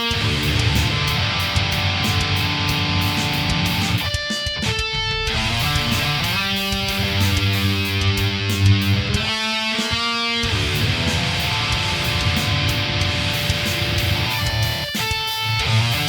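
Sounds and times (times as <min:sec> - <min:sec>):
distorted electric guitar riffs: 0:00.0 - 0:16.0.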